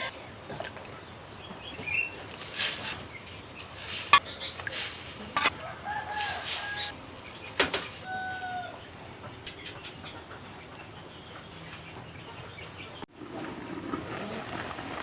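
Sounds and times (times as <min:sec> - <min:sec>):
chickens calling: 0:00.0 - 0:14.7.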